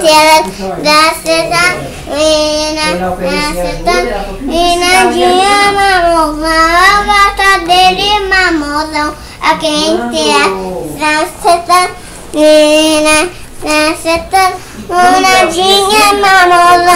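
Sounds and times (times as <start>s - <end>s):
girl singing unaccompanied: 0.0s - 16.9s.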